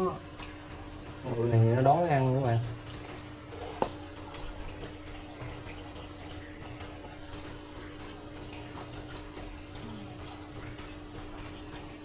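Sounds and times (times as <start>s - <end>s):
pump electric hum: 0.0s - 12.0s
water running: 0.0s - 12.0s.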